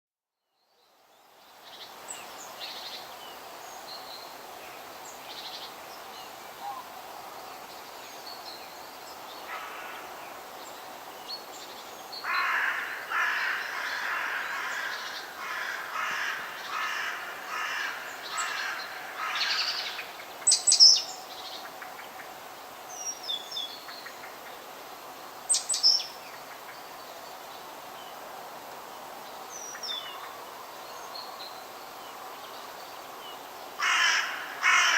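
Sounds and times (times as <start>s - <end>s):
faint background hiss: 0.3s - 34.9s.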